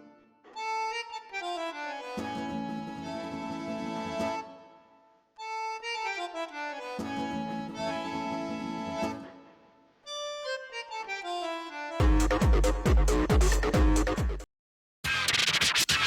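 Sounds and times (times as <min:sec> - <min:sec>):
instrumental music: 0:00.0 - 0:14.4.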